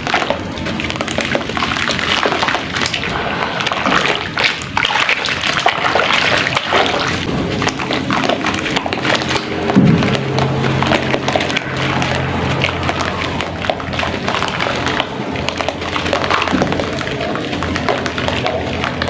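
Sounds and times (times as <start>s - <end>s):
wet sloshing and splashing: 0.0s - 19.0s.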